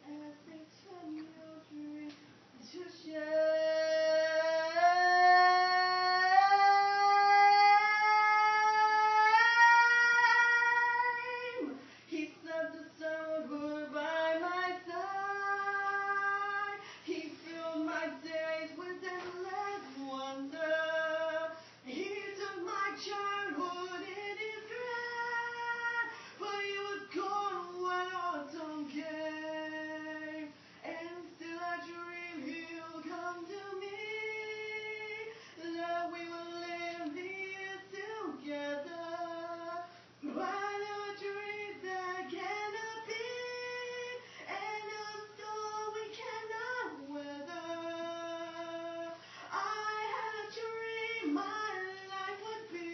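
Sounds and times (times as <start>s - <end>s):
woman singing: 0.0s - 52.9s.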